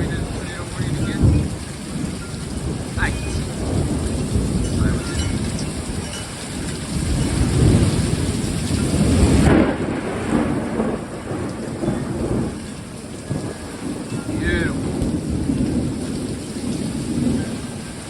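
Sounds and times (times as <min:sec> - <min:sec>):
heavy rain: 0:00.0 - 0:18.0
storm winds gusting: 0:00.0 - 0:18.0
wind buffeting microphone: 0:00.0 - 0:18.0.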